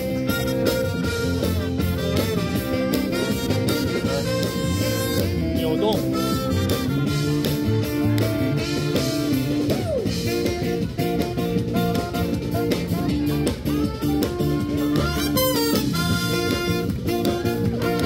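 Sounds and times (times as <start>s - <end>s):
instrumental music: 0.0s - 18.0s.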